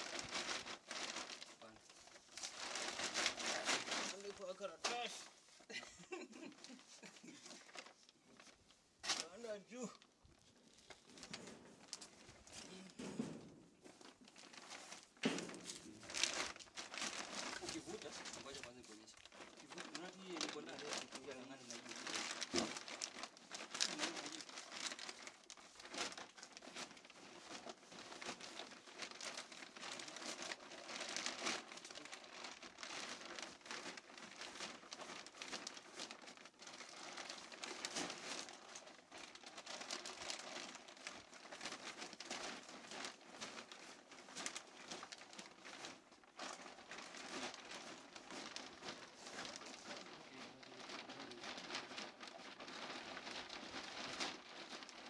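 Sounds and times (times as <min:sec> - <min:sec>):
plastic bag crinkling: 0:00.0 - 0:55.0.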